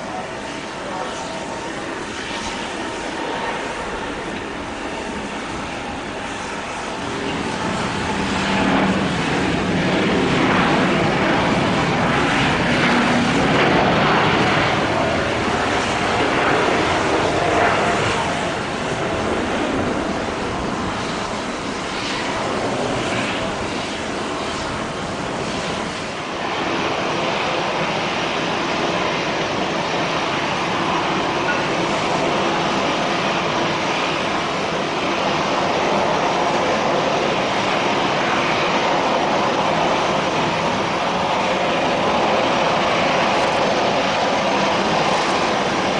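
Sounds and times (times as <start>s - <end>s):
jet airliner engines: 0.0s - 45.9s.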